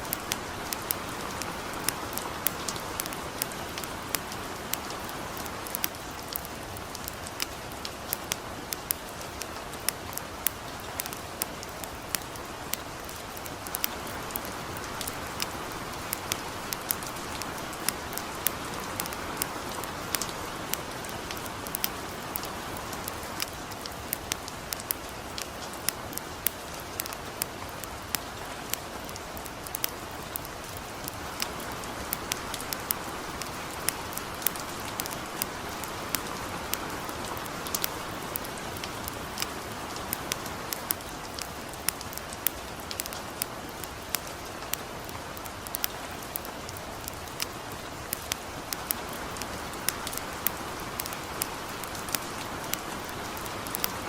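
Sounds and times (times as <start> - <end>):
campfire crackling and popping: 0.0 - 54.0
light rain: 0.0 - 54.0.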